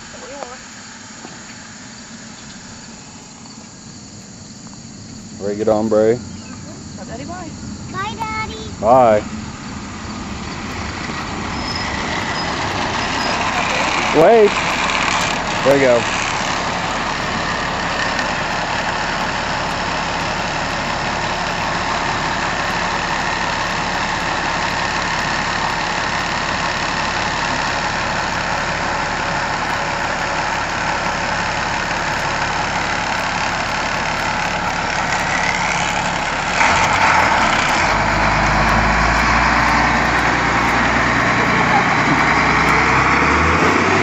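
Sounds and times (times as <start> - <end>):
bus engine idling: 0.0 - 44.0
bus pulling away: 0.0 - 44.0.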